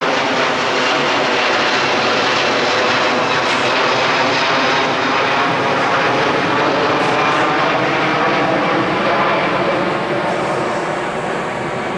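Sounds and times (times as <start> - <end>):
jet engines rushing: 0.0 - 11.9.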